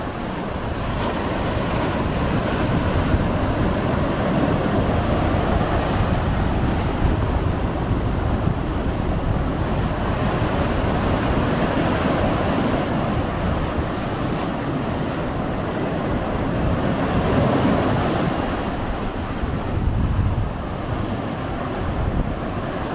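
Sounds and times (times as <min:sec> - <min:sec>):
ocean surf breaking: 0:00.0 - 0:22.9.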